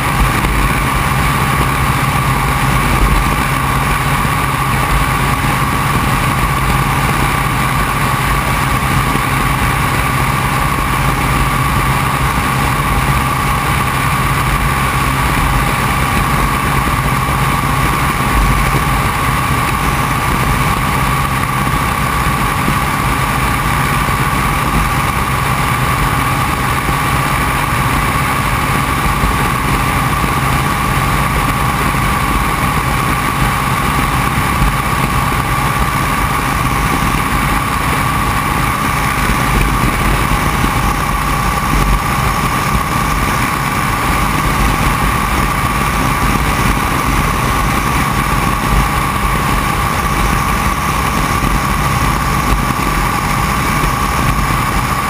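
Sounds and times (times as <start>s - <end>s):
propeller engine drone: 0.0s - 55.0s.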